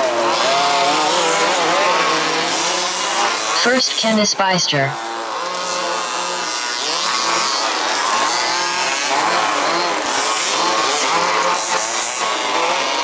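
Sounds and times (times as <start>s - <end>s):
model car engines racing: 0.0s - 4.0s, 5.0s - 13.0s.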